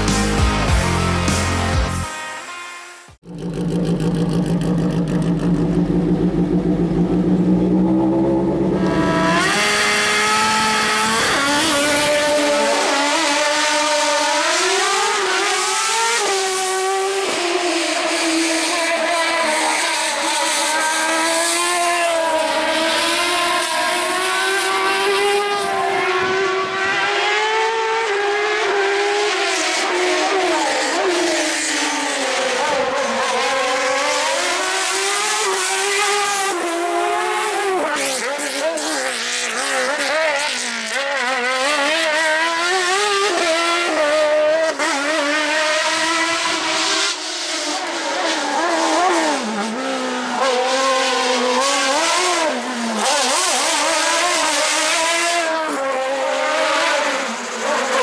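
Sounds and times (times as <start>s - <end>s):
car engine revving hard: 3.2s - 58.0s.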